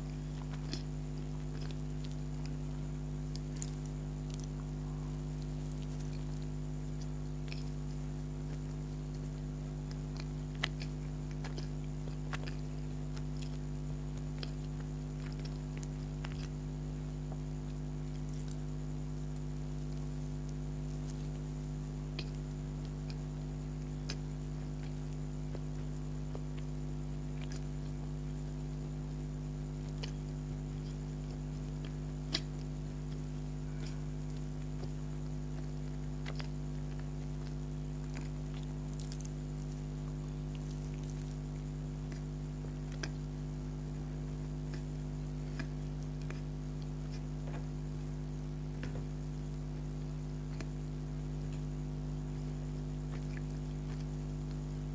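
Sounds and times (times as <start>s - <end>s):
chewing and lip smacks: 0.0s - 54.9s
low electrical hum: 0.0s - 54.9s.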